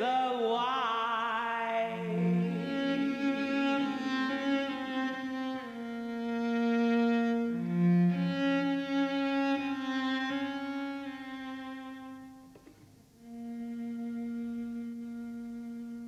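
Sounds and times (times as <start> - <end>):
cello bowing held notes: 1.9 - 16.0.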